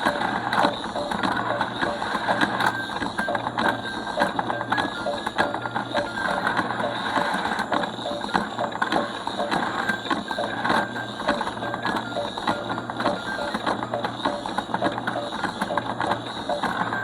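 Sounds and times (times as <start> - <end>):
toy motor hum: 0.0 - 17.0.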